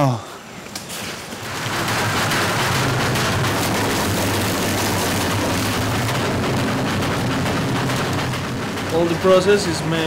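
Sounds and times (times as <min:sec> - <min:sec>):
rollers grinding cane: 0:00.9 - 0:10.0
mill motor hum: 0:01.3 - 0:10.0.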